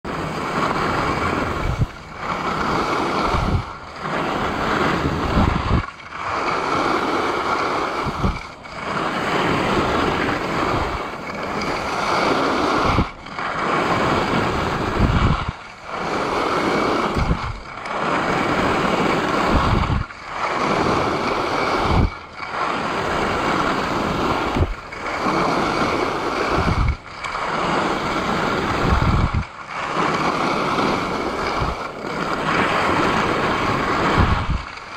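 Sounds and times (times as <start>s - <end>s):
skis scraping over snow: 0.1s - 34.9s
wind on microphone: 0.1s - 34.9s.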